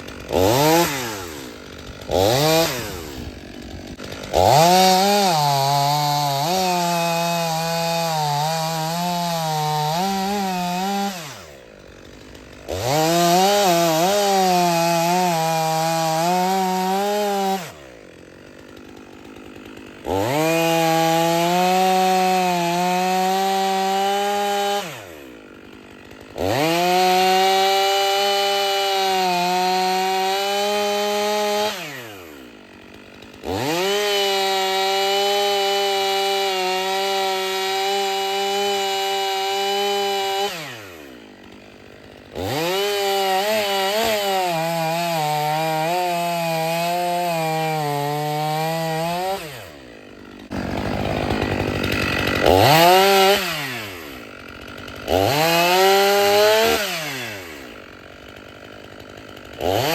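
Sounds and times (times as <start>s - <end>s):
chainsaw cutting at full throttle: 0.0s - 59.9s.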